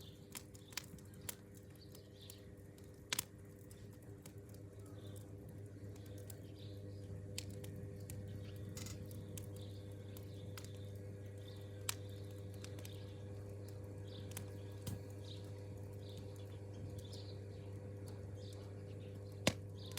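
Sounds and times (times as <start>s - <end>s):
campfire crackling: 0.0s - 19.9s
steady low hum: 0.0s - 19.9s.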